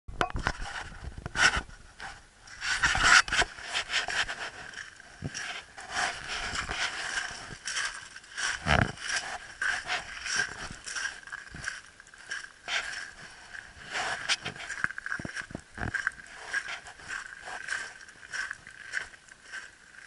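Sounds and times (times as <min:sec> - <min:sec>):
footsteps crunching on shingle: 0:00.5 - 0:20.0.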